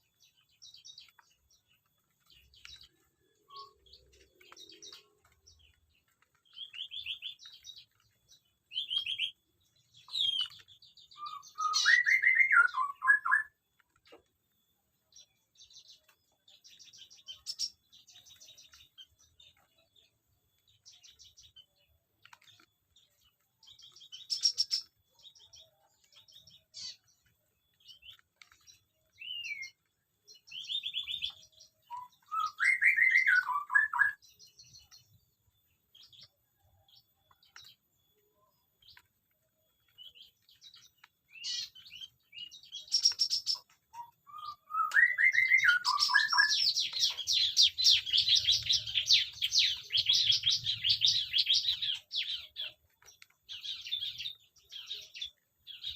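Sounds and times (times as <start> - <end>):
bird warbling song: 0.0 - 55.9
birds chattering: 0.0 - 55.9
small birds chirping: 0.0 - 55.9.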